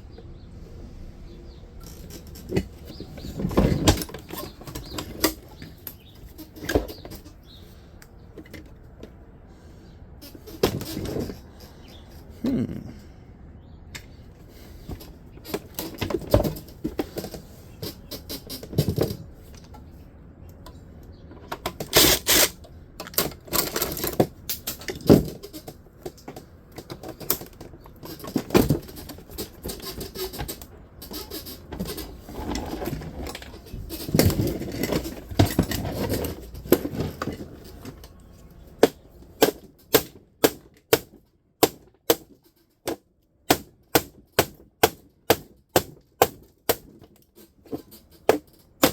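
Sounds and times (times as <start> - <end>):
metal parts clanking and rattling: 1.5 - 7.7, 10.2 - 12.7, 13.9 - 48.9.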